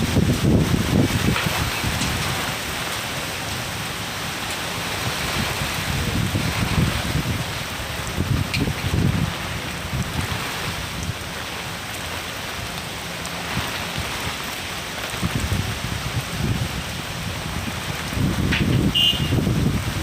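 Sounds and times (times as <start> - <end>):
steady rain falling: 0.0 - 20.0
wind rumble on microphone: 0.0 - 20.0.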